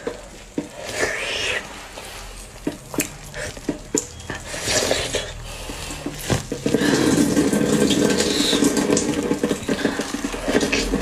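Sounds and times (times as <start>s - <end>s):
dense continuous crackling churn: 0.0s - 11.0s
utensils and dishes clicking: 0.0s - 11.0s.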